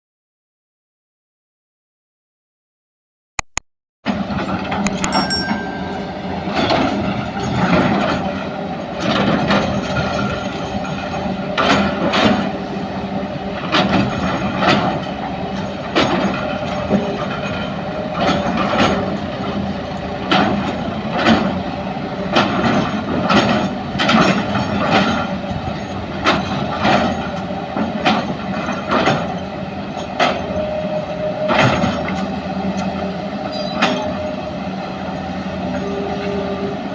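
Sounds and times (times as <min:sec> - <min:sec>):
excavator diesel engine running: 0:06.4 - 0:36.9.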